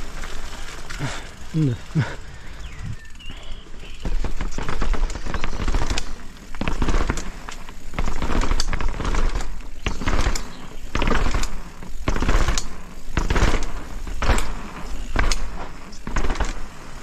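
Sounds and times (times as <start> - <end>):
bike rattling down steps: 0.0 - 17.0.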